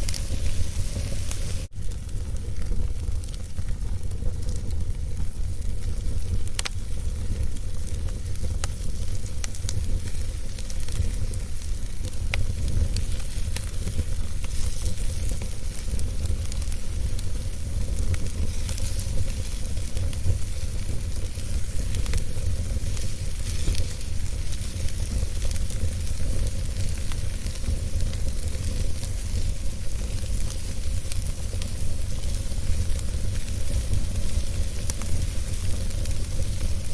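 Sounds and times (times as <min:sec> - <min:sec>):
fire flames rumbling: 0:00.0 - 0:36.9
wood crackling and popping: 0:00.0 - 0:36.9.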